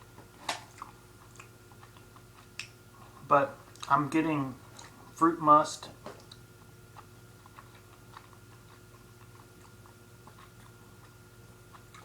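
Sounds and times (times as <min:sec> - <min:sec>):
faint steady hum: 0:00.0 - 0:12.0
chewing gummy snacks: 0:00.5 - 0:05.2, 0:05.8 - 0:12.0.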